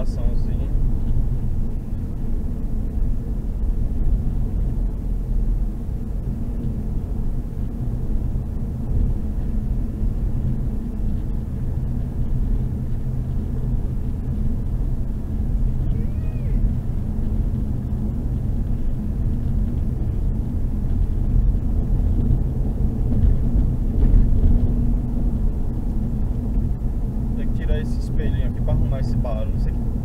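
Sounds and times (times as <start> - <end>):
car cabin road and engine rumble: 0.0 - 30.0.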